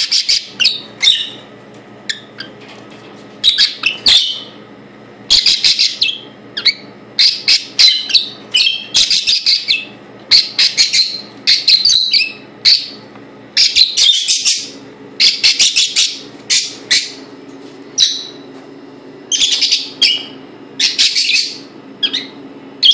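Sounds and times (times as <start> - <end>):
parrot chirping: 0.0 - 1.4, 2.1 - 2.6, 3.4 - 4.6, 5.3 - 13.0, 13.6 - 17.2, 18.0 - 18.4, 19.3 - 22.9.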